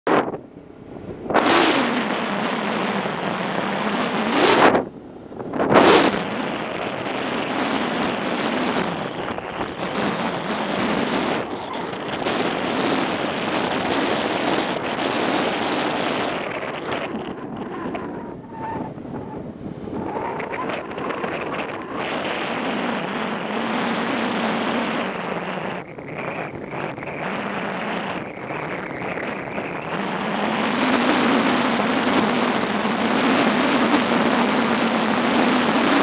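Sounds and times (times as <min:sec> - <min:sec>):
wind rushing over microphone: 0:00.0 - 0:36.0
motorcycle engine running: 0:00.1 - 0:36.0.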